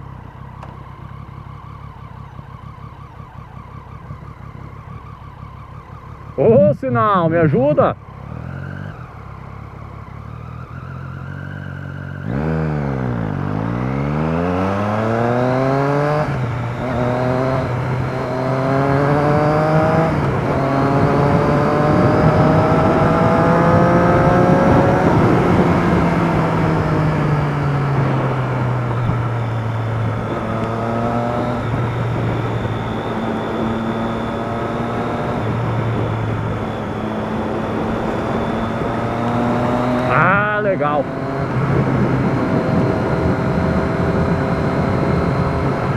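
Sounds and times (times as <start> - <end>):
motorcycle engine accelerating: 0.0 - 45.9
wind and road noise: 0.0 - 45.9.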